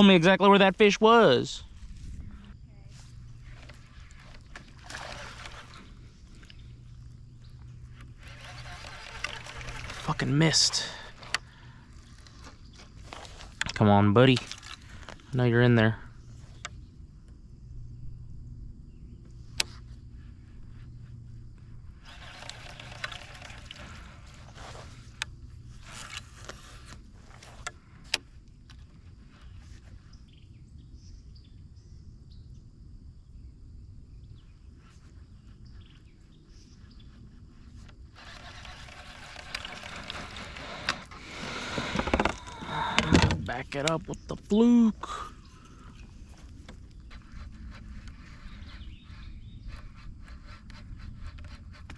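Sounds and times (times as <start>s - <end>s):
low outdoor rumble: 0.0s - 51.9s.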